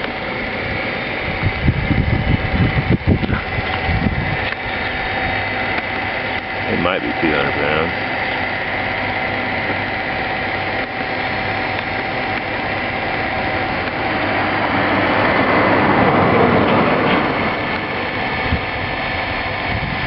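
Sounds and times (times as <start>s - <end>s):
valve grinder mechanical hum: 0.0s - 20.0s.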